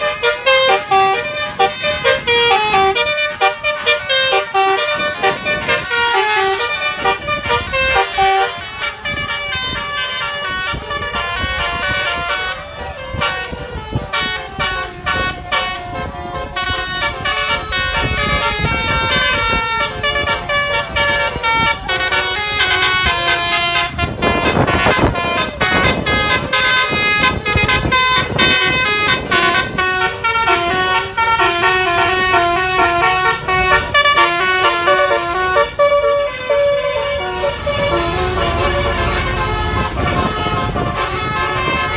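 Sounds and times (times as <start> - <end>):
multi-tone bus horn tune: 0.0 - 41.9.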